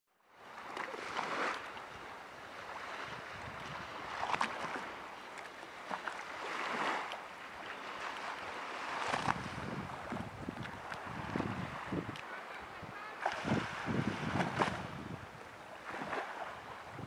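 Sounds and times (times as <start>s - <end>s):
small waves lapping on sand: 0.2s - 17.0s.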